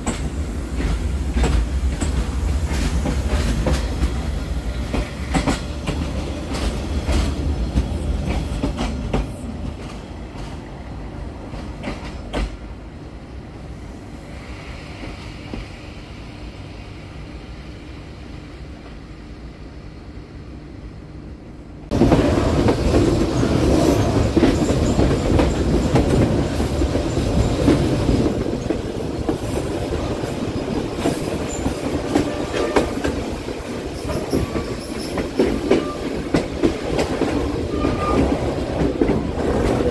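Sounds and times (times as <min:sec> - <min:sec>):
train rail noise: 0:00.0 - 0:39.9.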